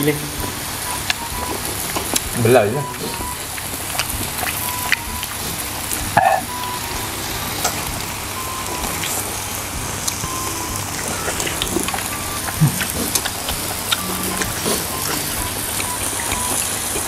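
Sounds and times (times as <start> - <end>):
meat sizzling on grill pan: 0.0 - 17.0
pops and crackles: 0.0 - 17.0.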